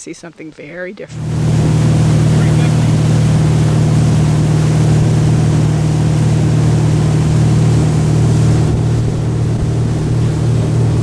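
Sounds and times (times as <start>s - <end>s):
engine humming loudly: 1.1s - 11.0s.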